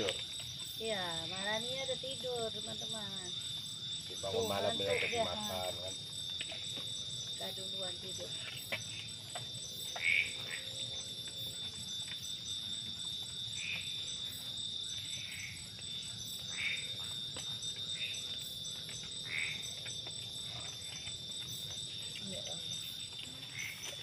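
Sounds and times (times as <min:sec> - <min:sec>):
short insect call: 0:00.0 - 0:24.0.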